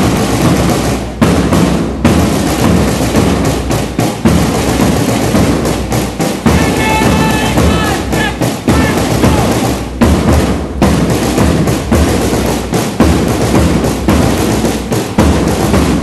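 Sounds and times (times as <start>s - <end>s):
marching bass drum beat: 0.0s - 16.0s.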